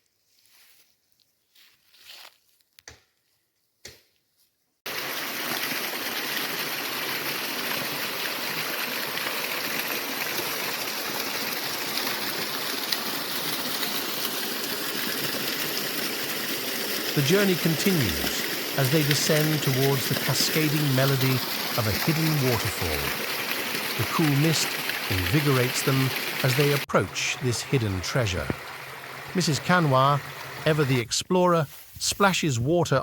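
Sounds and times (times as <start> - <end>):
stream water rushing: 4.9 - 31.6.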